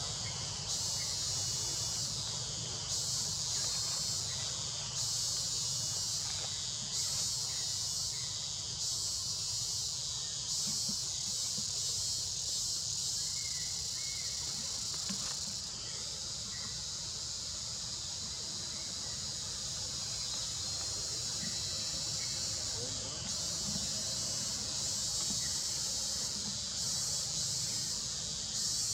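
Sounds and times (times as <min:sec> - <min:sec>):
insects buzzing chorus: 0:00.0 - 0:28.9.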